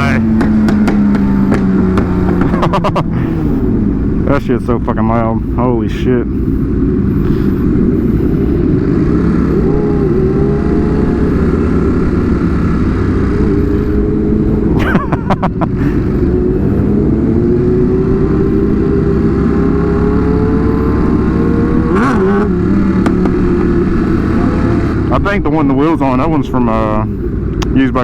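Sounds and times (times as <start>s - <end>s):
heavy low rumble: 0.0s - 28.0s
sportbike engines running: 0.0s - 28.0s.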